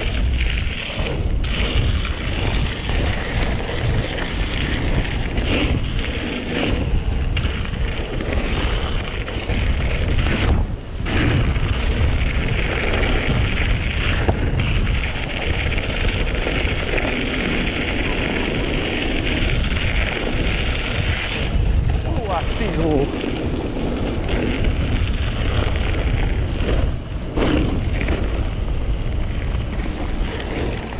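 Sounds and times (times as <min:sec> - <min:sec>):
bike knocking on trail: 0:00.0 - 0:30.9
wind buffeting microphone: 0:00.0 - 0:30.9.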